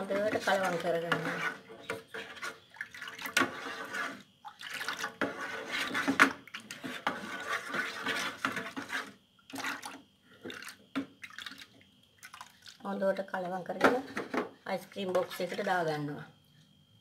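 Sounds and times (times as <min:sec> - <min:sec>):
wooden spoon stirring liquid in pot: 0:00.0 - 0:16.0.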